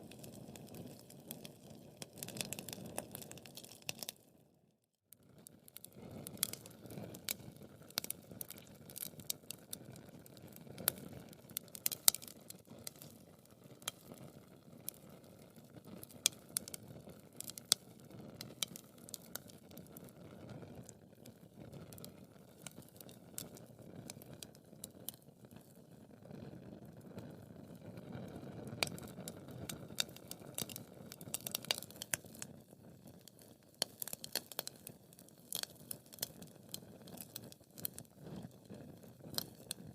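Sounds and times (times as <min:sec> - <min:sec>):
wood fire crackling: 0:00.0 - 0:04.2, 0:05.4 - 0:39.9.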